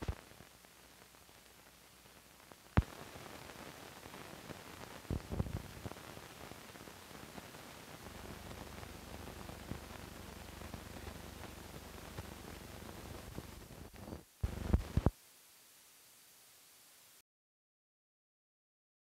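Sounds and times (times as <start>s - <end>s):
crackles and pops: 0.0s - 16.6s
film soundtrack hiss: 0.0s - 17.2s.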